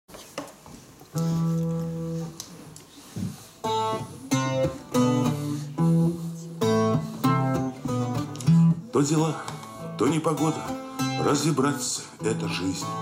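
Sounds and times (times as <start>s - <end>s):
acoustic guitar playing: 1.1s - 13.0s.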